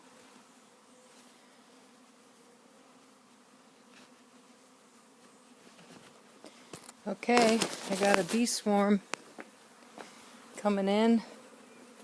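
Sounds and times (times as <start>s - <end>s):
honeybee swarm buzzing: 0.0s - 12.0s.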